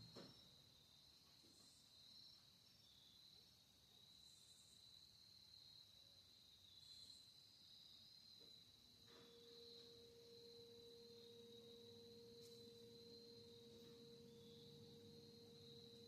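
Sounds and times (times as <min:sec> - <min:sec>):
high-pitched insect trill: 0:00.0 - 0:16.0.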